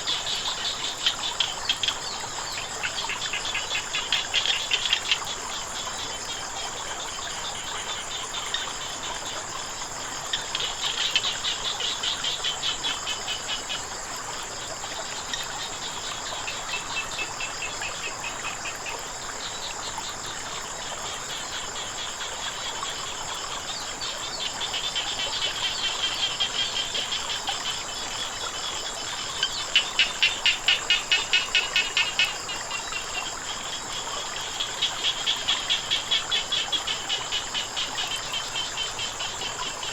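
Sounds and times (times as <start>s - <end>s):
flowing water hiss: 0.0s - 39.9s
frogs trilling: 0.0s - 39.9s
high-pitched insect chorus: 0.0s - 39.9s.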